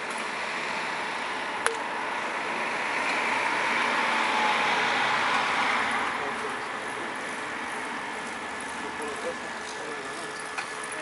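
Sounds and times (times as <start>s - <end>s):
vehicle passing: 0.3s - 11.0s.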